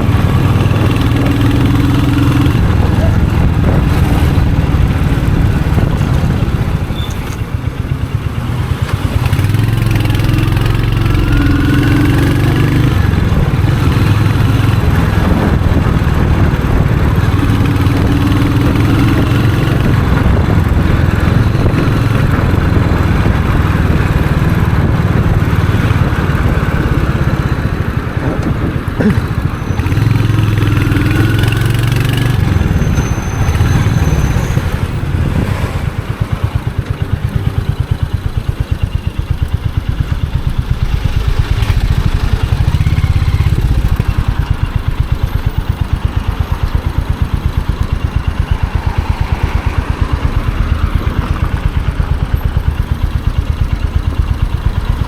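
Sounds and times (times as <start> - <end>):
motorcycle engine and exhaust: 0.0 - 55.0.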